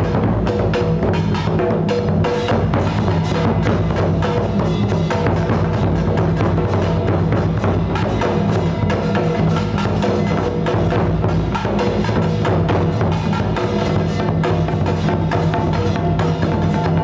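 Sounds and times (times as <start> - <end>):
drums: 0.0 - 17.0
rapid wood-block strikes: 0.0 - 17.0.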